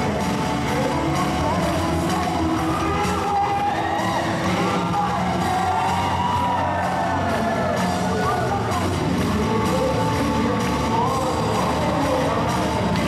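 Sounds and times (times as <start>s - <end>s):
backing track: 0.0s - 13.0s
man singing into microphone: 0.0s - 13.0s.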